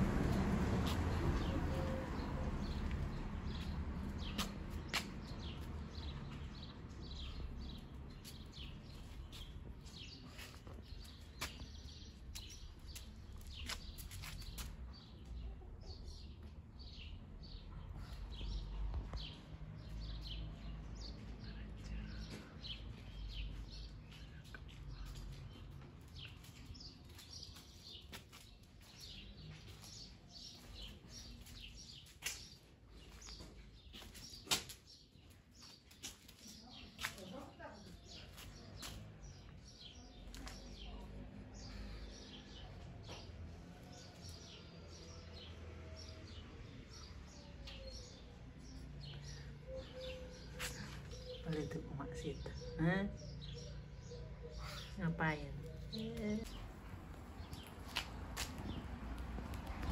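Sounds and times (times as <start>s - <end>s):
small birds chirping: 0.8s - 59.9s.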